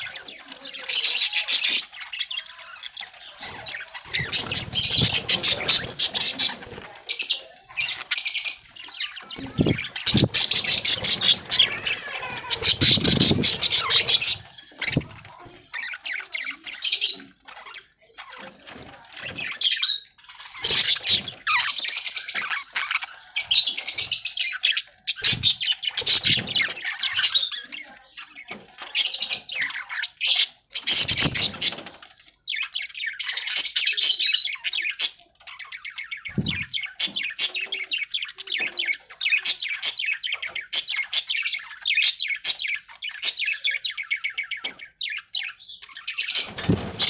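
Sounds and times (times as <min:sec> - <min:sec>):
budgerigars chattering: 0:00.0 - 0:18.0, 0:19.3 - 0:47.0.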